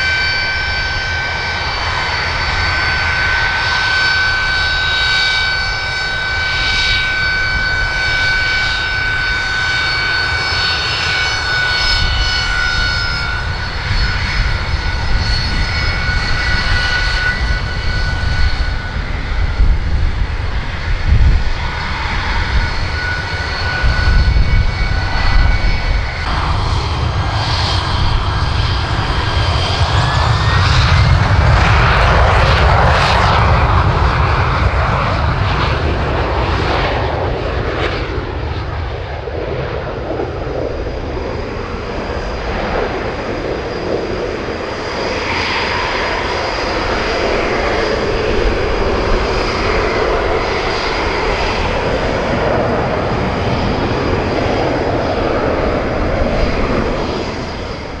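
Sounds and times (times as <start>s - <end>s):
jet engine roar with high whine: 0.0s - 58.0s.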